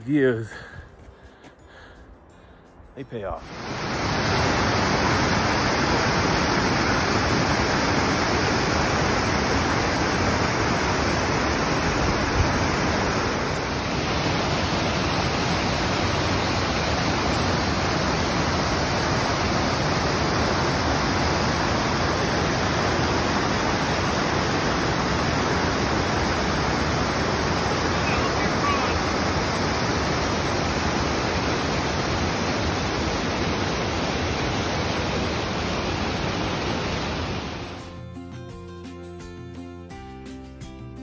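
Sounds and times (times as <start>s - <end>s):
whitewater rushing over boulders: 3.4s - 37.8s.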